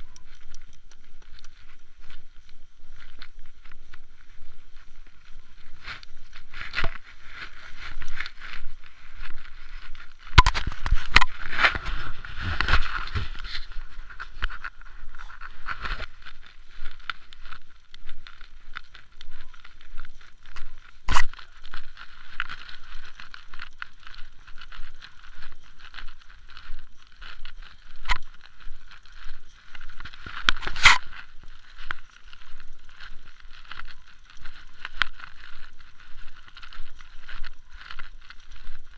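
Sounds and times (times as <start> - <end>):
bike rattling and tyre noise: 0.0 - 38.9.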